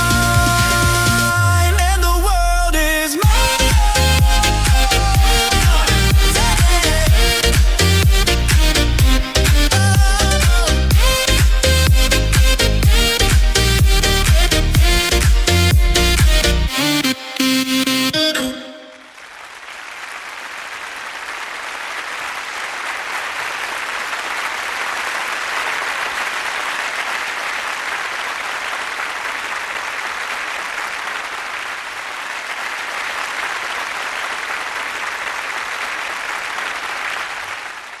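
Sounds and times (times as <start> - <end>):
group clapping: 3.2 - 16.5, 18.4 - 38.0.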